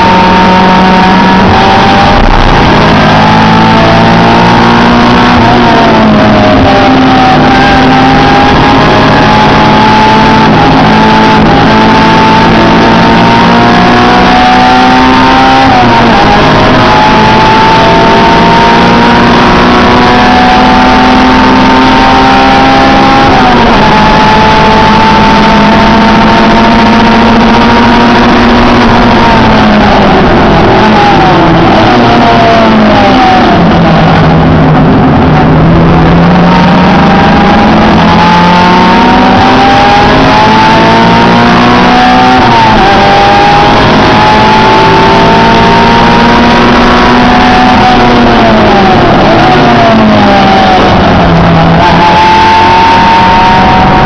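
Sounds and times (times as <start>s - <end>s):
car engine revving from cabin: 0.0s - 54.0s.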